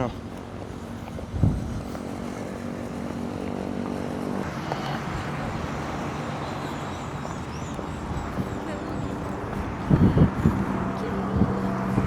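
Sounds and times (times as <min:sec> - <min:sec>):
outdoor background din: 0:00.0 - 0:12.0
vehicle engine humming: 0:00.0 - 0:12.0.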